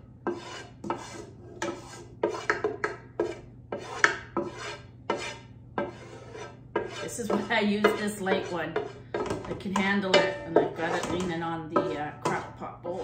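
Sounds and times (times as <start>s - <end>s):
wooden spoon scraping a pan: 0.0s - 13.0s.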